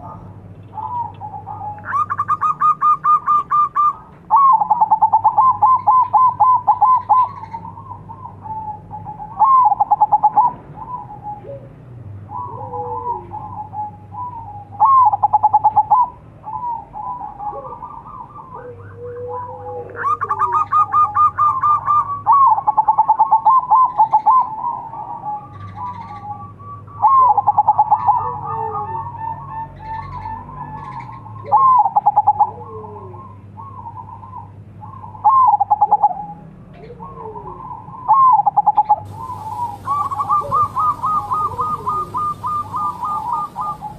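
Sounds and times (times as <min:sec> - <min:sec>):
dove cooing in trilled notes: 0:00.0 - 0:43.9.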